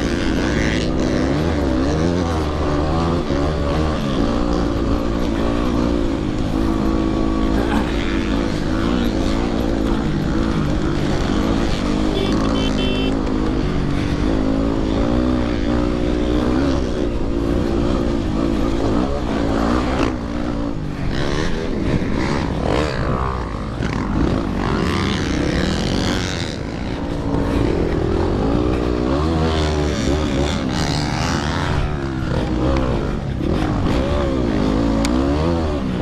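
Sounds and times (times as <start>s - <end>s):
dirt bike engine racing: 0.0s - 36.0s.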